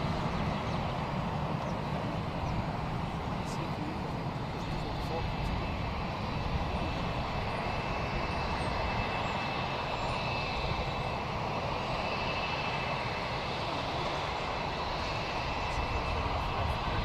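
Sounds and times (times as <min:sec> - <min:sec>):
plane engines running: 0:00.0 - 0:17.0.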